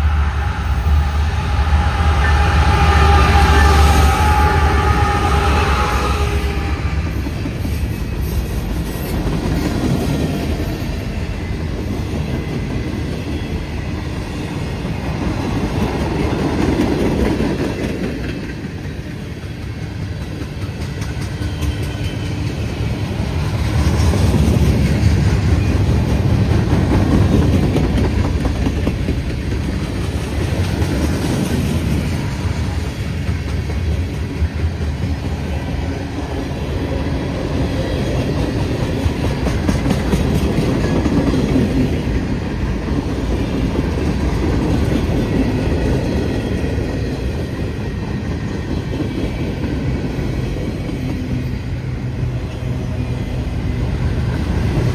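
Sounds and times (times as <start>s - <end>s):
freight train wheels rumbling: 0.0s - 54.9s.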